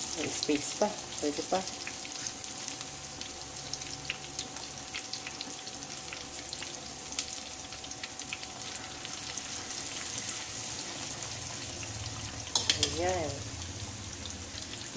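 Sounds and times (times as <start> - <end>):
chicken deep-frying in oil: 0.0 - 14.9.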